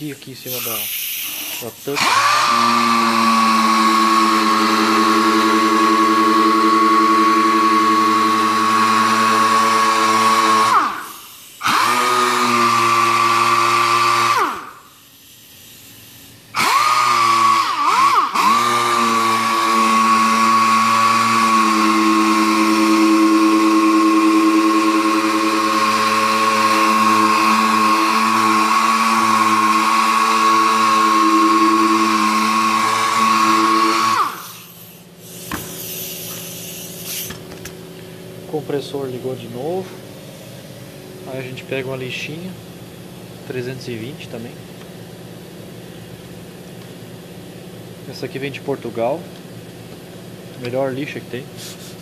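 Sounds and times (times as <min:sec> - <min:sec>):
air sander whining: 0:00.0 - 0:15.0, 0:15.8 - 0:42.8.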